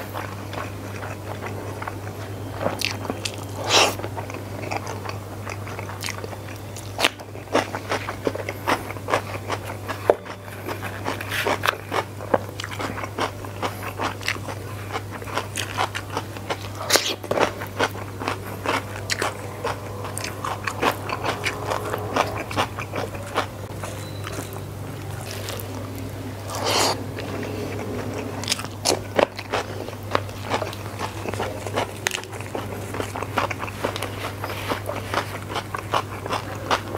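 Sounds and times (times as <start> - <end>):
chewing rice: 0.0 - 36.9.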